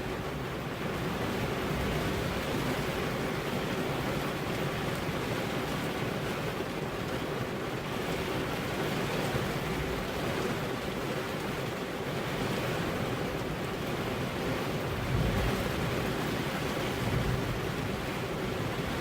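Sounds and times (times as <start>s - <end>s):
rain on car windows: 0.0s - 19.0s.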